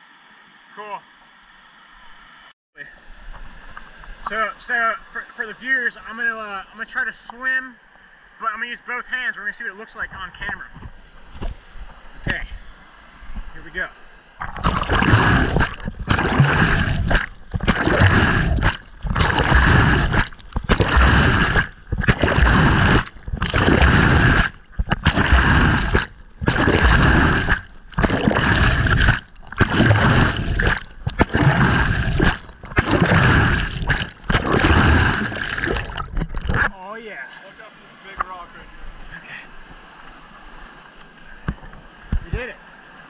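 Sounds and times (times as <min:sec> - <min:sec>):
water rushing and splashing: 0:00.0 - 0:43.0.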